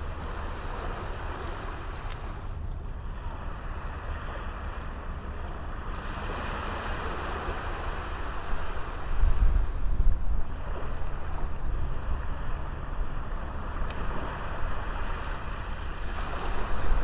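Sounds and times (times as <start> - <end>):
sea waves washing onto beach: 0.0 - 17.0
wind rumbling on microphone: 0.0 - 17.0.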